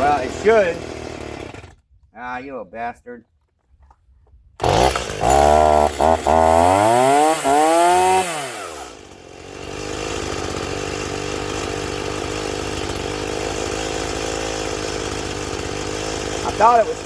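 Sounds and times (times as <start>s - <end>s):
chainsaw revving and idling: 0.0s - 1.8s, 4.6s - 17.0s.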